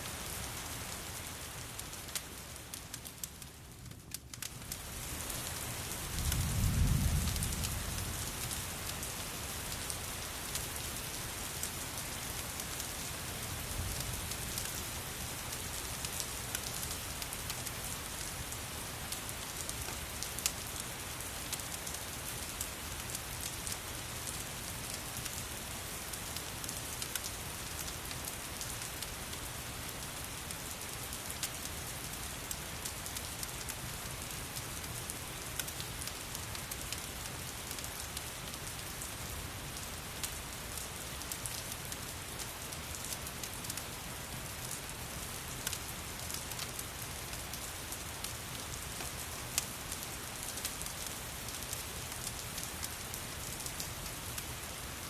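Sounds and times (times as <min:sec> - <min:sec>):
steady rain falling: 0:00.0 - 0:55.0
wood fire crackling: 0:00.1 - 0:55.0.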